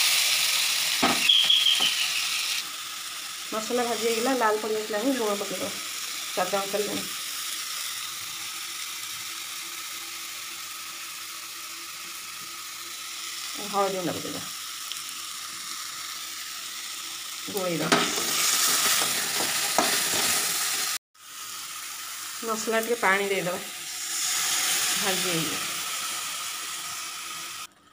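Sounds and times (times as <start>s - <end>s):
paste sizzling in hot oil: 0.0s - 27.7s.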